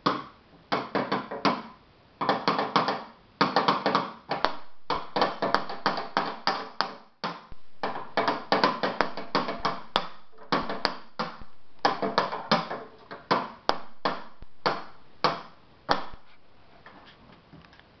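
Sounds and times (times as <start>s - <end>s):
stick drumming on wooden boxes: 0.0s - 16.6s.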